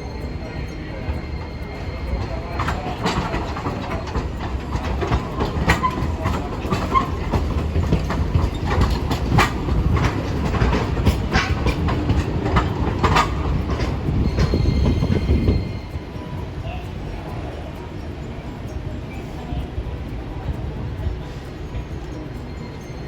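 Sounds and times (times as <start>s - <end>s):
streetcar rumbling past: 0.0s - 23.0s
wheels clacking over rail joints: 0.0s - 23.0s.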